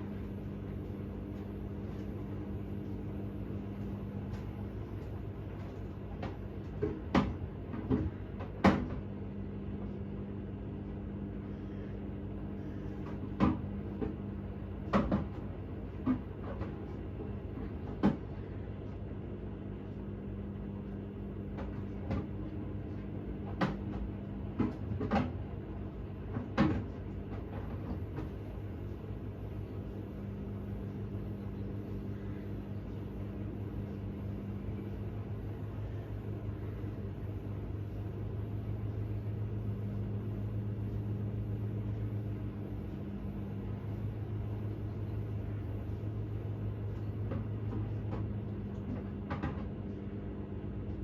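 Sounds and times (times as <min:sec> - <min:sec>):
washing machine humming: 0:00.0 - 0:51.0.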